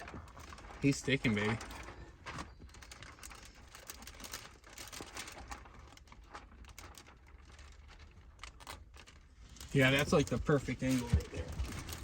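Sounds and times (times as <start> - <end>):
film crinkling: 0.0 - 12.0.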